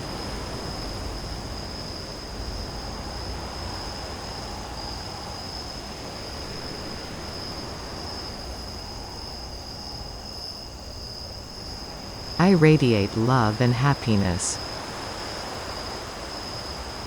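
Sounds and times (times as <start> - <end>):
crickets chirring: 0.1 - 12.4, 14.7 - 17.0.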